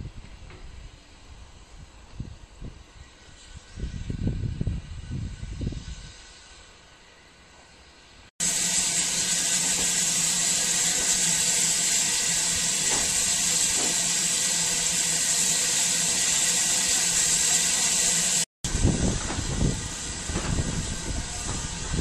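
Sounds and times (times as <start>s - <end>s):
steam locomotive hissing: 0.7s - 22.0s.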